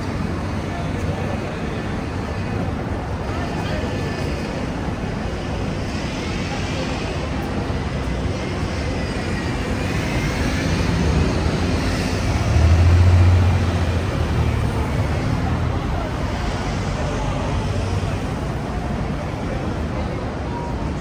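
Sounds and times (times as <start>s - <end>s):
city street traffic: 0.0s - 21.0s
heavy vehicle engine drone: 0.0s - 21.0s.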